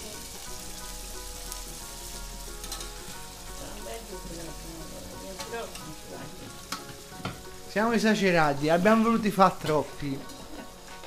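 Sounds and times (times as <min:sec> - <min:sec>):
squid sizzling in a pot: 0:00.0 - 0:11.0.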